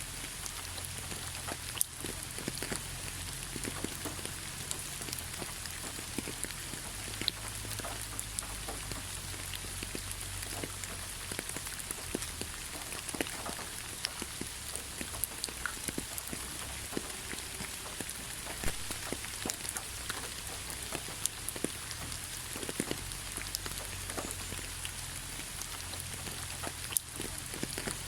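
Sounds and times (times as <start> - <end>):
heavy rain hiss: 0.0 - 28.0
raindrops ticking: 0.0 - 28.0.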